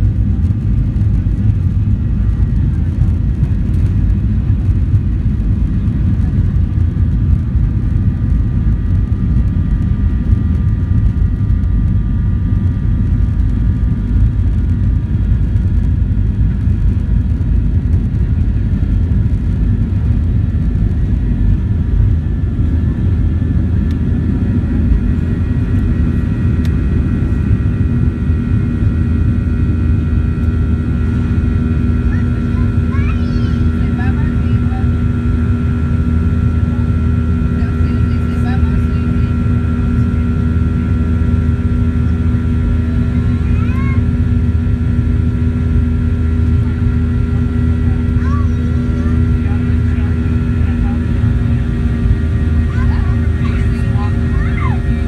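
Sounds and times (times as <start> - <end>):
heavy low rumble: 0.0 - 55.0
jet engine whine: 0.0 - 55.0.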